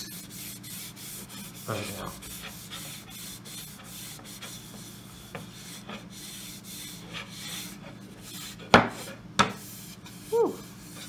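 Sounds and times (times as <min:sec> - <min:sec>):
cloth rag rubbing wood: 0:00.0 - 0:11.0.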